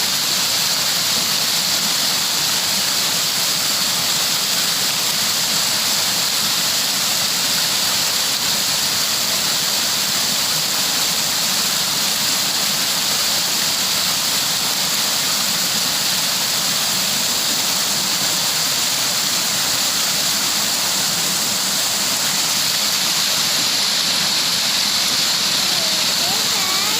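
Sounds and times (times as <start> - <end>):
rushing water: 0.0 - 26.9.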